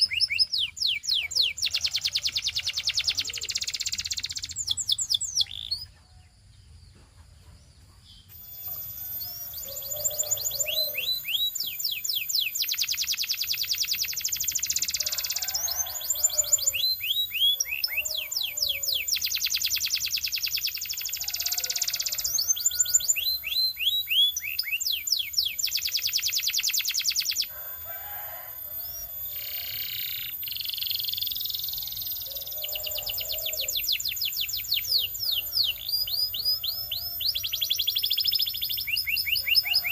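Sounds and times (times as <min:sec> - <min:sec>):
canary singing: 0:00.0 - 0:06.0, 0:08.1 - 0:39.9.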